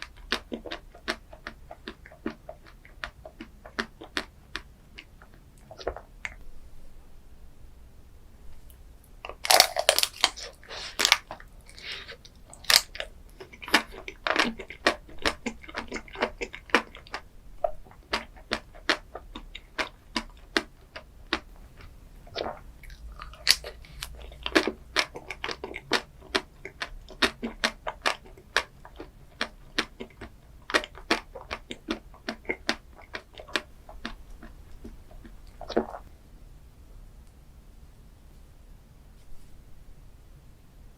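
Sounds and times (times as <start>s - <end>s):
person chewing crunchy food: 0.0s - 6.4s, 9.2s - 36.1s.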